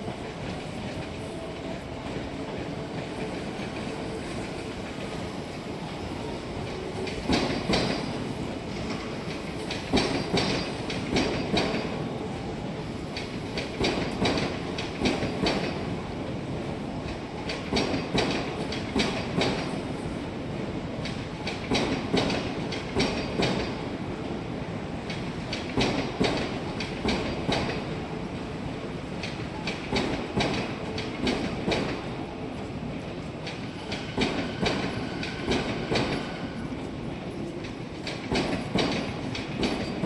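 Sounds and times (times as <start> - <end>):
train wheels clacking over rail joints: 0.0 - 12.2, 13.1 - 24.0, 25.0 - 28.5, 29.1 - 32.3, 33.0 - 40.0
train rumble: 0.0 - 40.0.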